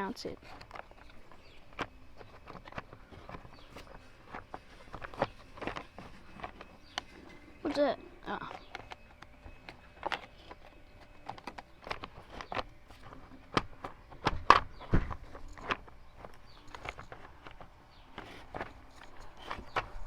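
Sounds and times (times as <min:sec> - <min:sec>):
plastic covers and screws knocking: 0:00.0 - 0:20.0.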